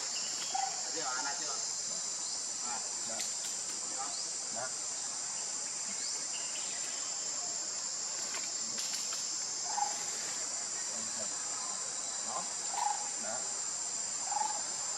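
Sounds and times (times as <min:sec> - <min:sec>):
high-pitched insect chorus: 0:00.0 - 0:14.9
short insect calls: 0:00.0 - 0:14.9.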